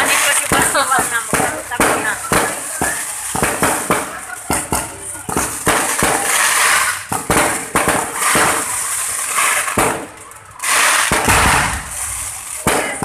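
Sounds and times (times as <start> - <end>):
fireworks bangs: 0.0 - 13.0
hissing crackle of fireworks: 0.0 - 13.0.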